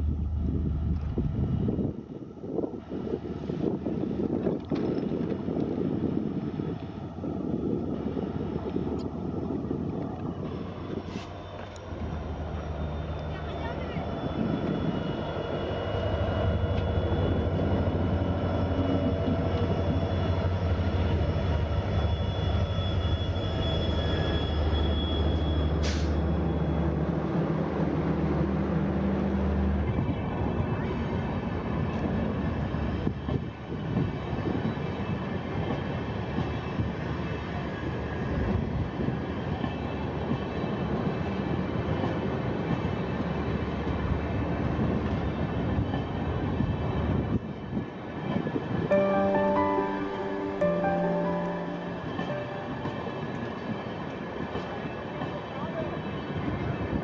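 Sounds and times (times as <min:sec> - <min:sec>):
train coaches rumbling on rails: 0:00.0 - 0:48.8, 0:53.5 - 0:57.0
diesel locomotive engine hum: 0:00.0 - 0:57.0.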